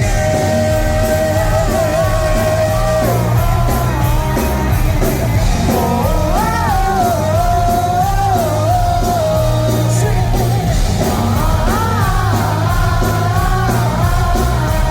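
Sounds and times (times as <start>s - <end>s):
crowd singing along: 0.0s - 14.9s
rock band playing: 0.0s - 14.9s
singer singing: 0.0s - 14.9s.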